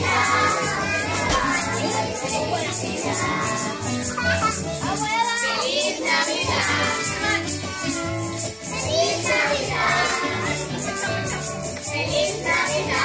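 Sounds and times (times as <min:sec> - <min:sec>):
young children singing: 0:00.0 - 0:08.0, 0:08.6 - 0:13.0
christmas song playing: 0:00.0 - 0:13.0
jingle bells shaking: 0:00.0 - 0:13.0.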